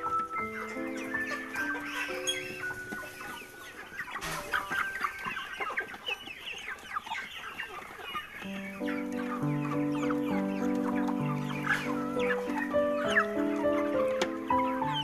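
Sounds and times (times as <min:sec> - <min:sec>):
background music: 0:00.0 - 0:06.0, 0:08.3 - 0:15.0
flock of chickens clucking: 0:00.0 - 0:15.0.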